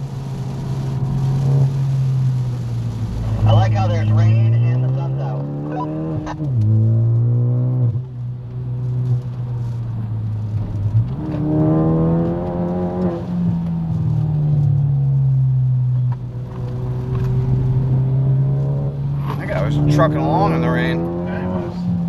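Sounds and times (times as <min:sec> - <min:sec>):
car engine accelerating: 0:00.0 - 0:22.0
road noise on wet road: 0:00.0 - 0:22.0.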